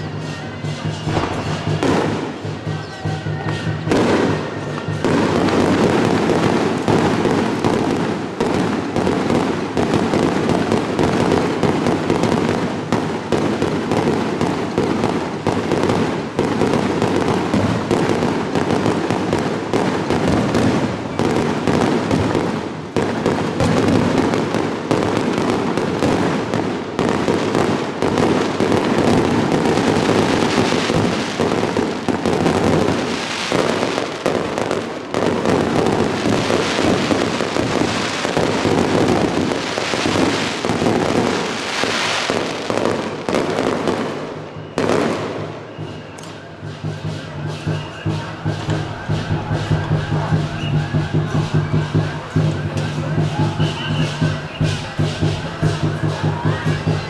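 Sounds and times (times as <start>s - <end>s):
fireworks crackling and popping: 0.0s - 57.0s.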